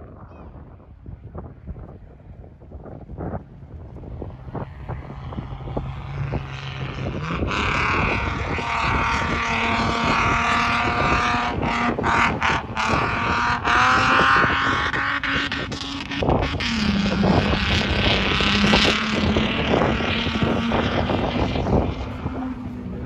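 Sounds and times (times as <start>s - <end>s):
wind buffeting microphone: 0.0s - 23.0s
rally car engine: 0.6s - 23.0s.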